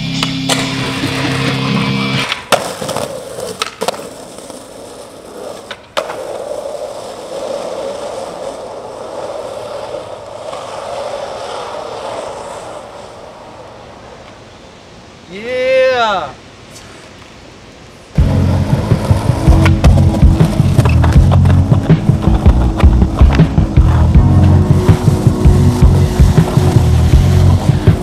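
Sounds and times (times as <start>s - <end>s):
skateboard clacks: 0.0s - 14.4s, 18.2s - 28.0s
skateboard wheels rolling on road: 0.0s - 28.0s.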